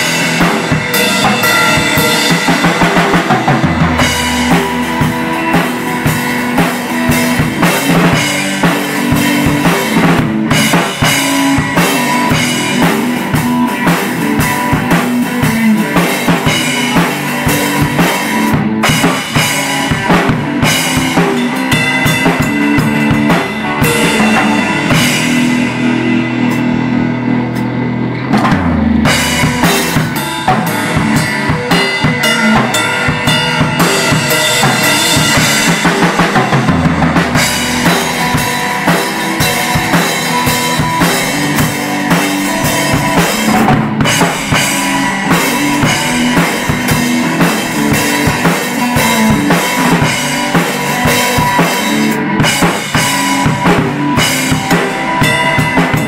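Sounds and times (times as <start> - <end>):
drum kit beat: 0.0 - 56.0
held bass notes: 0.0 - 56.0.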